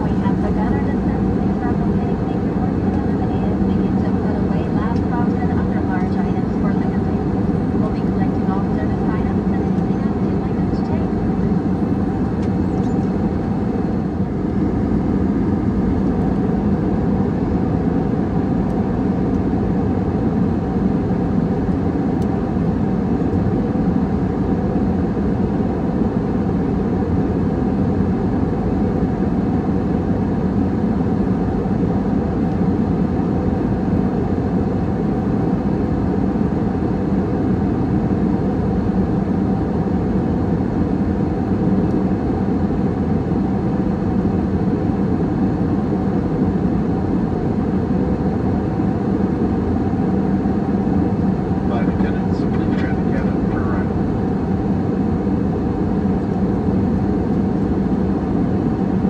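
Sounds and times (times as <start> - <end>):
airliner cabin engine noise: 0.0 - 59.0
faint constant hum: 0.0 - 59.0.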